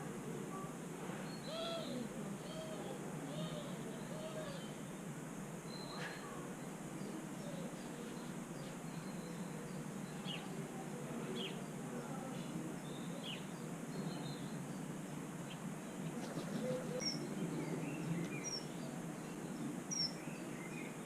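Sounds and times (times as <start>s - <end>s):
small birds chirping: 1.2s - 21.0s.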